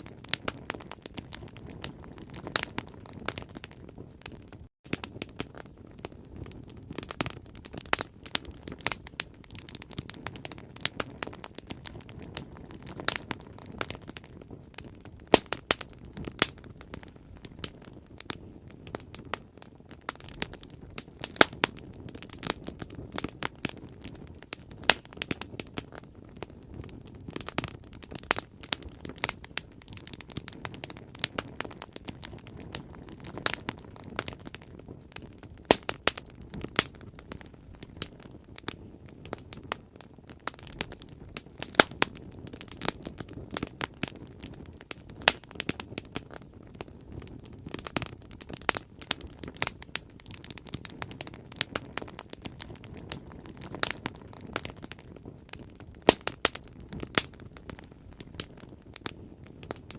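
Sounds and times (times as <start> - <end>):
burning wood popping and snapping: 0.0 - 59.9
low rush of flames: 0.0 - 59.9.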